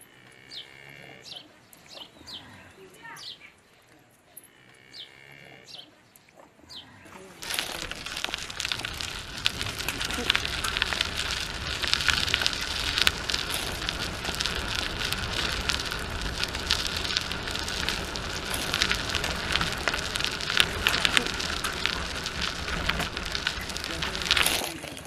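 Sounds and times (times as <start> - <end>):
crackling noise: 4.4 - 25.0.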